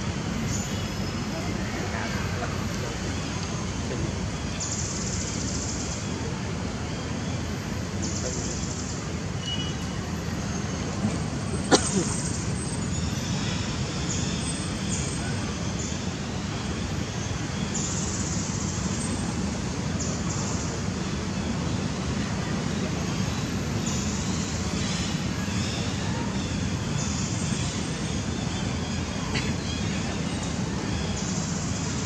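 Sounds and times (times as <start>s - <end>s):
low rumble with hiss: 0.0s - 32.0s.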